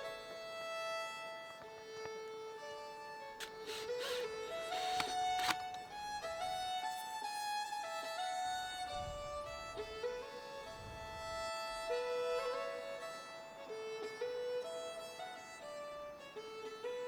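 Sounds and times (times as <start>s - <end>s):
fiddle playing slow melody: 0.0s - 17.0s.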